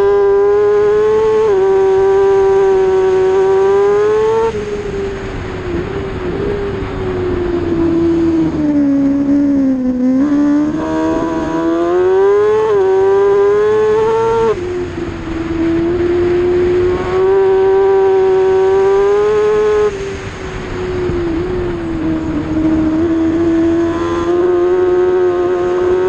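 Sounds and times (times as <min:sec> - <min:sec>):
racing motorcycle engine revving: 0:00.0 - 0:26.0.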